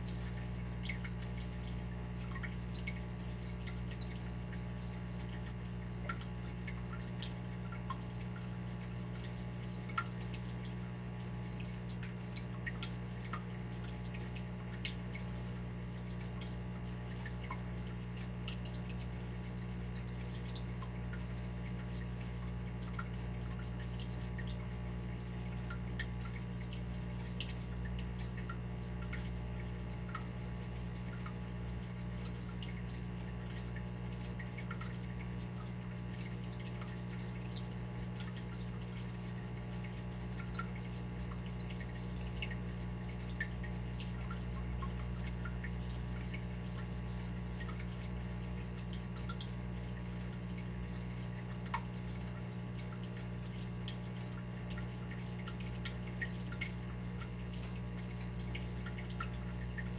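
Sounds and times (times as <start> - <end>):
water dripping: 0.0 - 59.9.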